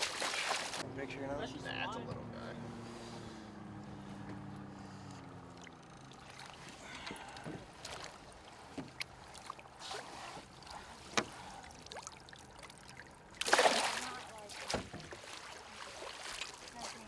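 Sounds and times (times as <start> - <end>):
water sloshing and lapping: 0.0 - 0.8, 2.7 - 17.0.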